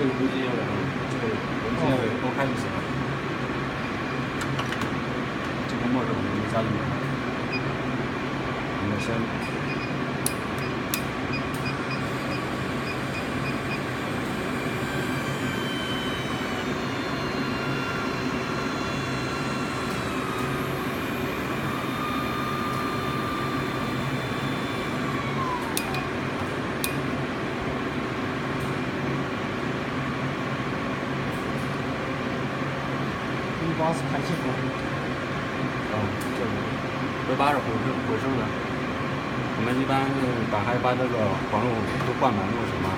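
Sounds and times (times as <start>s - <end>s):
mechanical hum: 0.0s - 42.9s.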